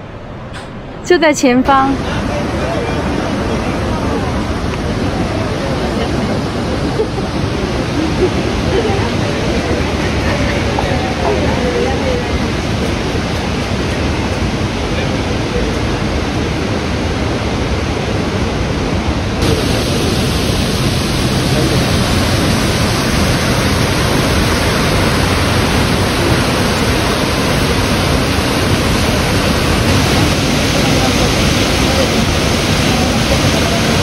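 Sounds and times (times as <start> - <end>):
waterfall roaring: 0.0 - 34.0.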